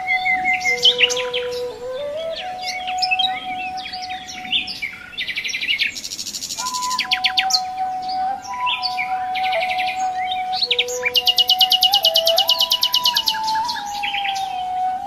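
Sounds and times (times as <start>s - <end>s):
flute playing long notes: 0.0s - 5.4s, 6.6s - 15.0s
songbirds chirping and trilling: 0.0s - 15.0s.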